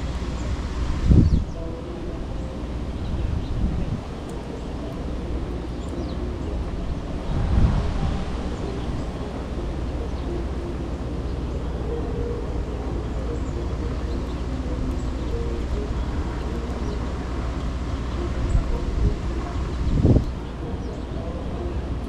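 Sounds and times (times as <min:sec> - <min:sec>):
distant traffic: 0:00.0 - 0:22.0
wind rumble: 0:00.0 - 0:22.0.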